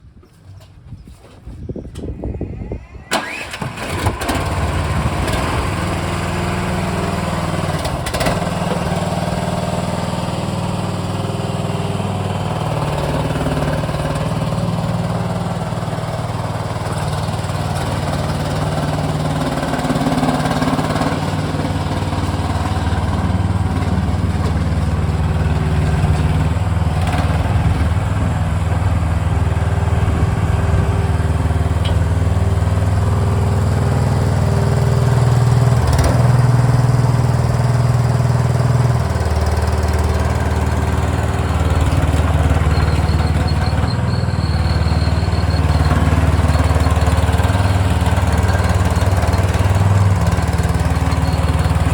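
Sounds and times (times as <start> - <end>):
loader engine running: 1.9 - 51.9.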